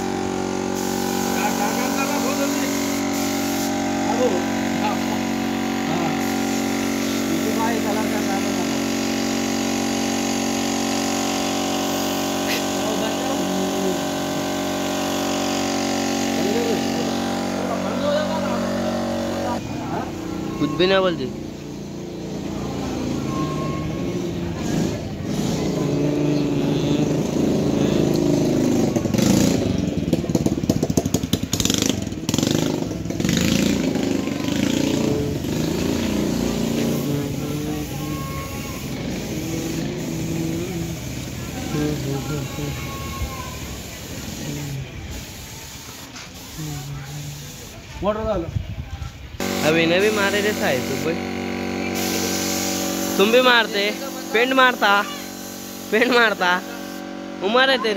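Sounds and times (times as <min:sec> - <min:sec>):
air compressor motor humming: 0:00.0 - 0:45.5, 0:49.4 - 0:57.9.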